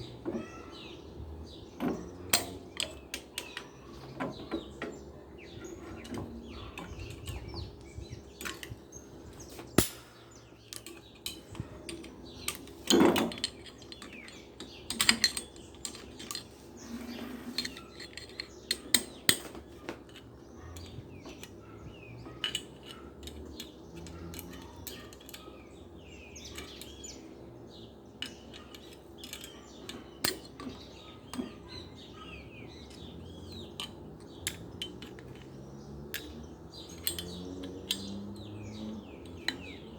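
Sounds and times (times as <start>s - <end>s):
birds chirping: 0.0s - 39.9s
metallic clinks of motor parts: 0.0s - 39.9s.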